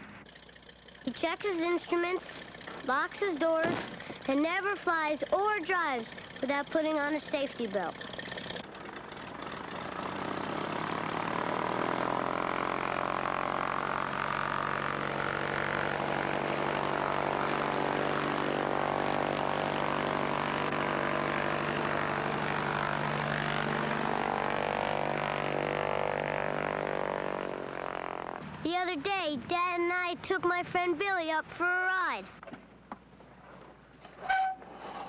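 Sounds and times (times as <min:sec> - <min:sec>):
propeller airplane engine drone: 0:00.0 - 0:35.0.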